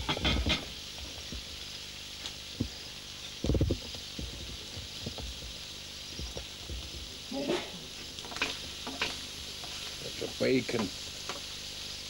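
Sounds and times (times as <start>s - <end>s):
bacon and sausages sizzling: 0.0s - 12.0s.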